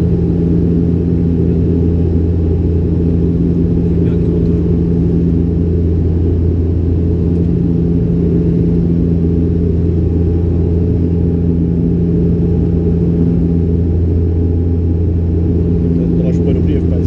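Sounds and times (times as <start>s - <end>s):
turboprop cabin drone: 0.0s - 17.0s.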